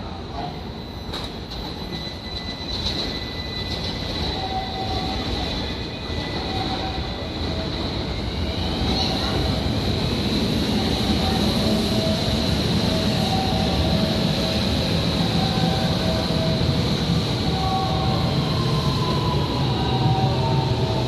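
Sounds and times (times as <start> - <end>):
electric train rail noise: 0.0 - 21.0.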